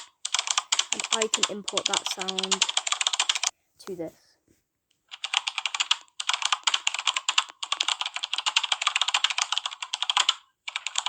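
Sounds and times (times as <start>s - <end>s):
keyboard typing clicks: 0.3s - 3.5s, 5.1s - 11.0s.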